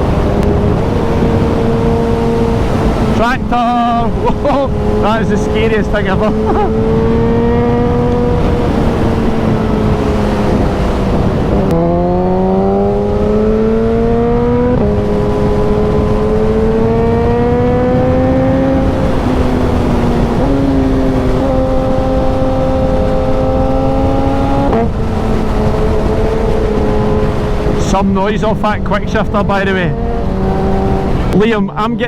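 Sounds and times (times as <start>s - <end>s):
motorcycle engine accelerating: 0.0s - 32.0s
wind rush: 0.0s - 32.0s.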